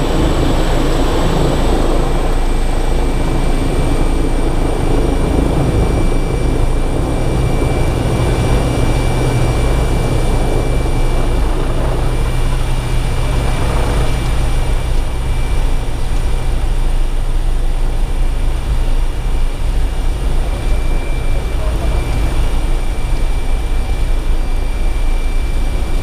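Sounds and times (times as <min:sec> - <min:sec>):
engine drone: 0:00.0 - 0:26.0
faint high whine: 0:00.0 - 0:26.0.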